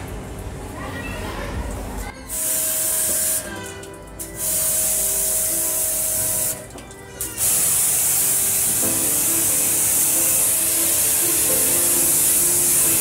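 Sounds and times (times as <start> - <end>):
pump motor humming: 2.3 - 13.0
water spray hissing: 2.3 - 13.0.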